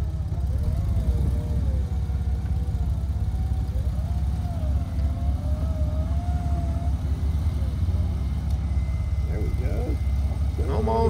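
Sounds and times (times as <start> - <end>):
high wavering whine: 0.0 - 11.0
vehicle engine idling: 0.0 - 11.0.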